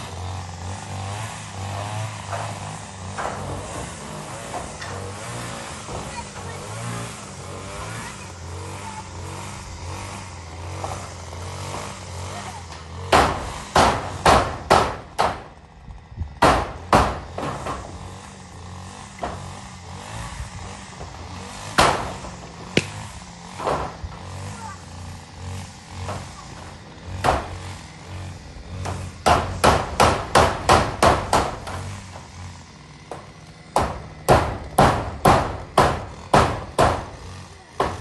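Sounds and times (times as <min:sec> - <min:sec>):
hammer striking metal roofing: 0:00.0 - 0:07.9, 0:10.5 - 0:15.7, 0:16.4 - 0:38.0.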